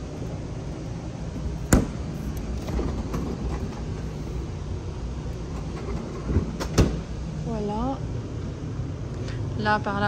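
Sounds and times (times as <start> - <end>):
store background rumble: 0.0 - 10.0.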